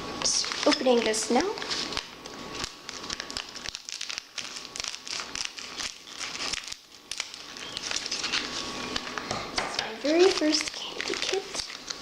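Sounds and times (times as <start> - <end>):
plastic packaging tearing and crinkling: 0.2 - 9.3, 10.0 - 12.0.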